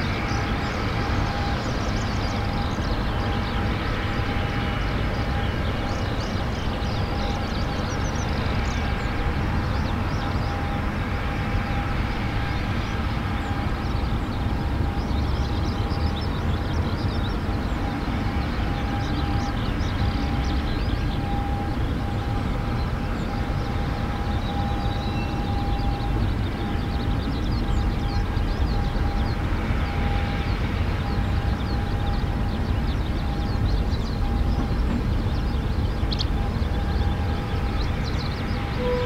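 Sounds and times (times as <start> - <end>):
airliner engine drone: 0.0 - 39.0.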